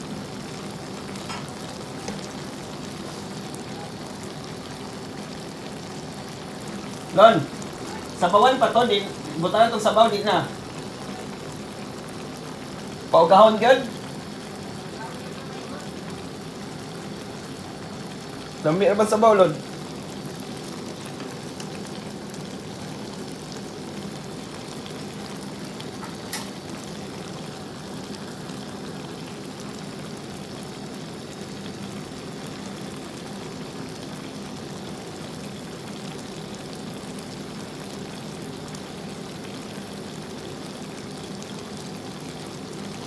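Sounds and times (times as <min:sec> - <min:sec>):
broth bubbling and sizzling: 0:00.0 - 0:43.0.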